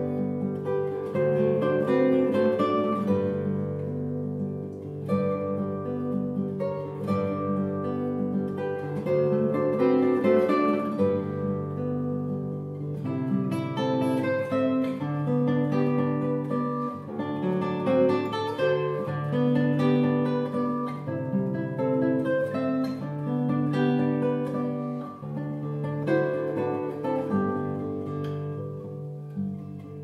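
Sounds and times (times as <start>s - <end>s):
fingerpicked classical guitar: 0.0s - 30.0s.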